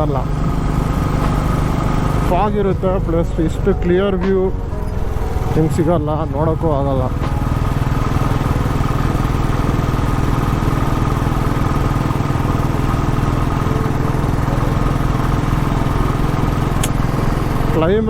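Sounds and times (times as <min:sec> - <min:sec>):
motorcycle engine thumping: 0:00.0 - 0:18.0.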